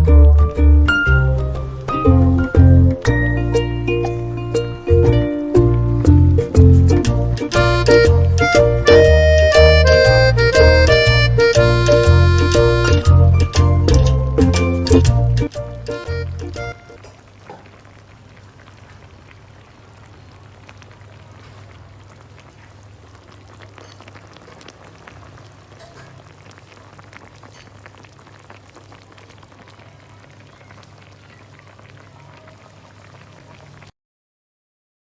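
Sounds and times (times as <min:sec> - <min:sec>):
food sizzling with crackles: 0:00.0 - 0:34.0.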